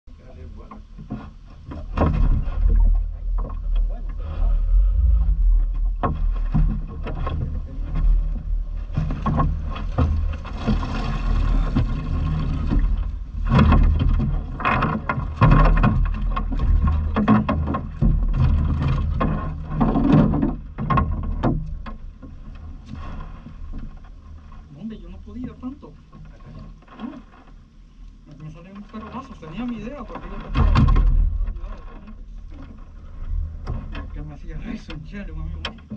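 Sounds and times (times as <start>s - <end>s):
steady low rumble: 0.0s - 35.9s
knocks and rattles: 0.4s - 27.6s, 28.6s - 35.9s.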